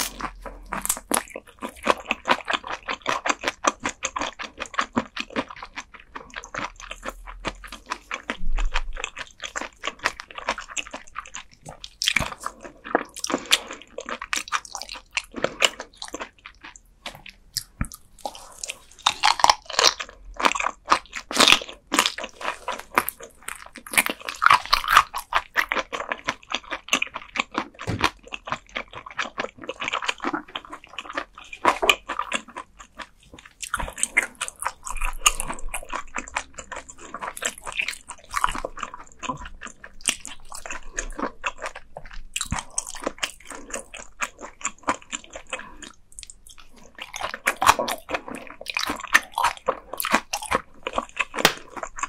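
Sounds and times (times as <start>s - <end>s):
crunching and chewing fish: 0.0s - 52.0s.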